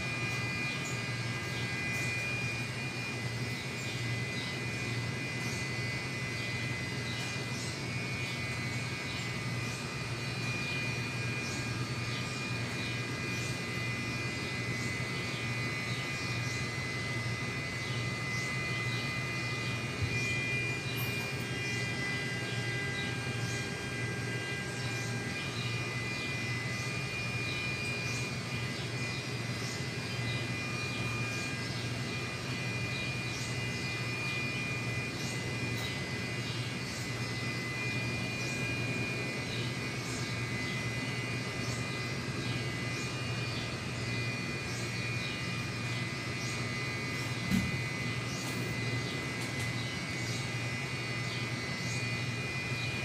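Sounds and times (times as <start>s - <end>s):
mechanical drone with high whine: 0.0s - 53.0s.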